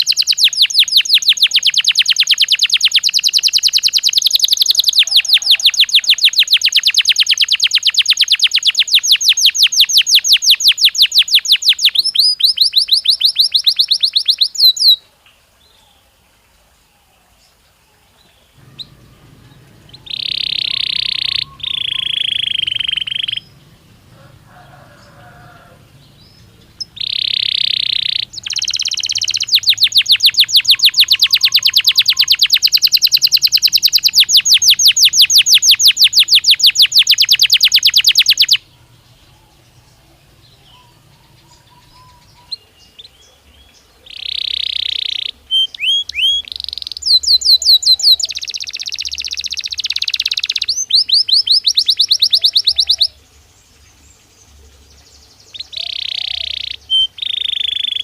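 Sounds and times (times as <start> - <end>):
canary singing trills: 0.0 - 15.0, 18.2 - 53.3, 53.9 - 58.0.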